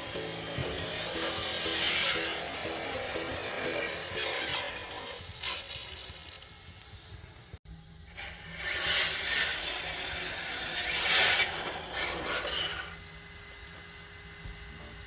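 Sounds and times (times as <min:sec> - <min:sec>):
toy car tyres scrubbing floor: 0:00.0 - 0:07.2, 0:08.2 - 0:13.0.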